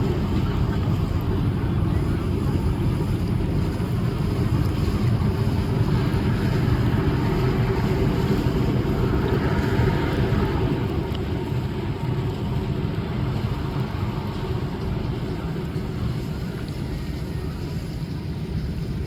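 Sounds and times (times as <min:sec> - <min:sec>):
boat engine running: 0:00.0 - 0:19.0
water on hull: 0:00.0 - 0:19.0
wind buffeting microphone: 0:00.0 - 0:19.0.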